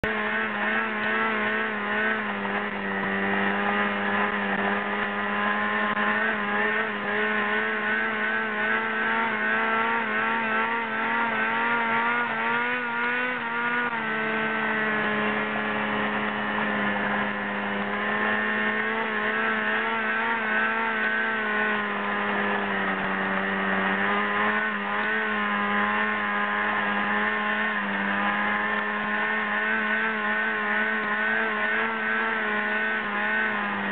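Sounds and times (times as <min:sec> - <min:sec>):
snowmobile engine running: 0:00.0 - 0:33.9.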